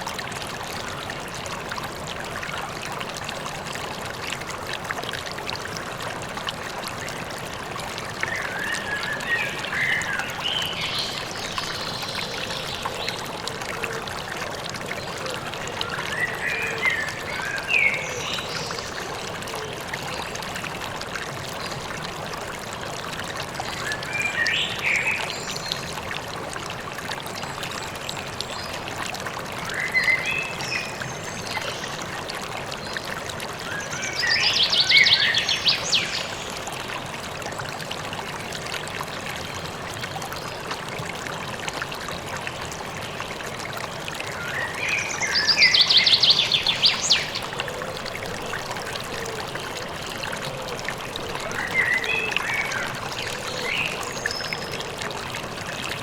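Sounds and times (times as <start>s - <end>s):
river running: 0.0s - 56.0s.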